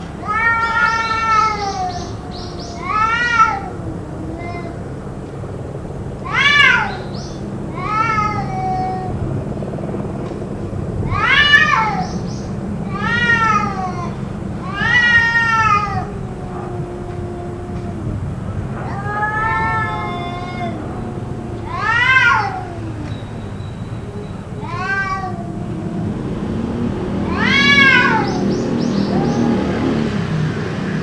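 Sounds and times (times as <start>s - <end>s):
cat yowling: 0.1s - 5.2s, 6.2s - 9.4s, 11.0s - 30.2s.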